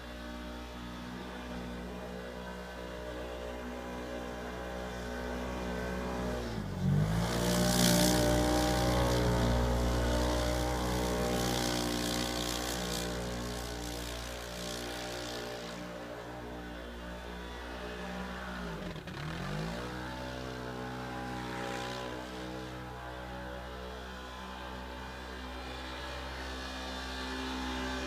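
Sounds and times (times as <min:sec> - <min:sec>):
tyres spinning through snow: 0:00.0 - 0:24.0
engine revving: 0:00.0 - 0:28.0.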